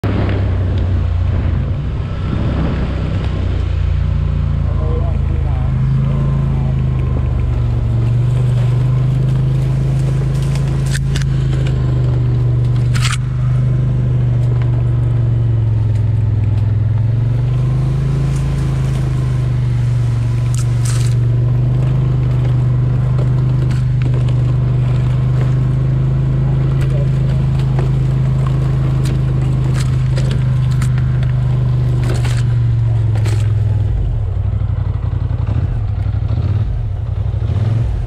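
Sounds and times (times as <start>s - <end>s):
quad bike engine running: 0.0s - 38.0s
brush scraping against vehicle: 2.4s - 35.2s.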